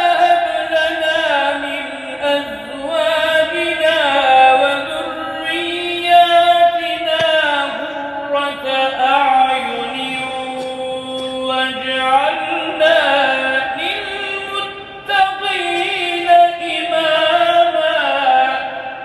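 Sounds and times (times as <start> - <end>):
person chanting verses: 0.0 - 19.0.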